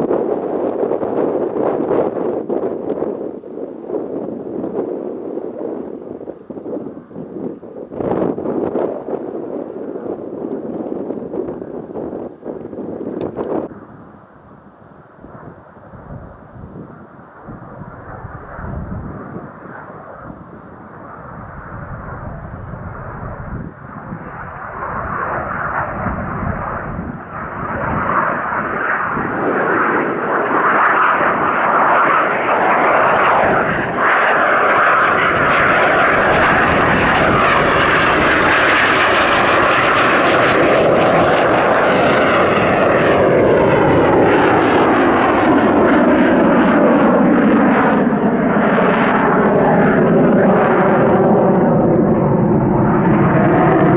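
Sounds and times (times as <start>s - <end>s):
jet engine whine passing overhead: 0.0s - 53.9s.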